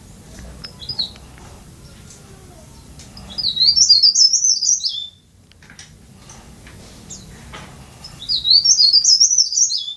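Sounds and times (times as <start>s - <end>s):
songbird singing rapid chirps: 0.3s - 5.3s, 6.9s - 9.9s.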